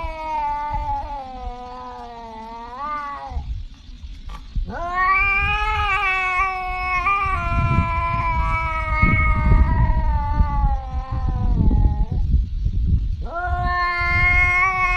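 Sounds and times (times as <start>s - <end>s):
cat meowing: 0.0s - 3.5s, 4.6s - 12.2s, 13.2s - 14.9s
low rumbling noise: 2.6s - 14.9s.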